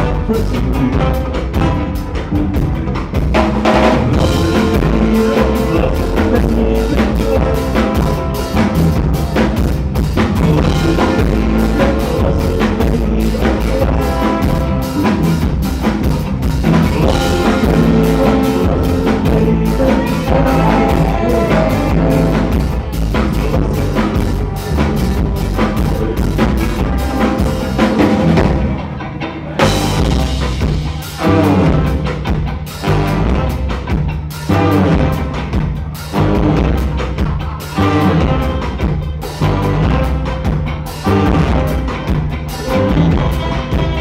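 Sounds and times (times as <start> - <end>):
sustained horn or keyboard lines: 0.0 - 28.8, 29.6 - 37.0, 37.6 - 44.0
bass: 0.0 - 44.0
drum kit with rimshots: 0.0 - 44.0.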